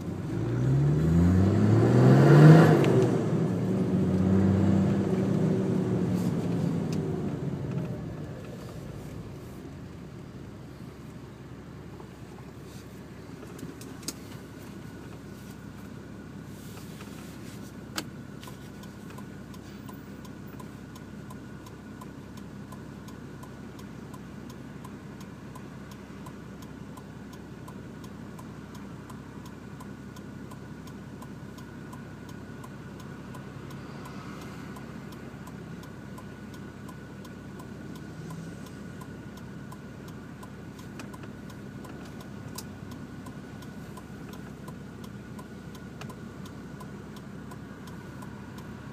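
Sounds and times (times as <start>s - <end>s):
light regular ticking: 2.0s - 48.9s
diesel engine idling: 3.1s - 48.9s.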